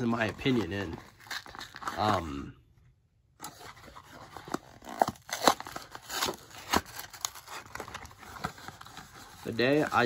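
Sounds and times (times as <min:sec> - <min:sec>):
packaging tearing and crumpling: 0:00.0 - 0:02.3, 0:03.5 - 0:10.0.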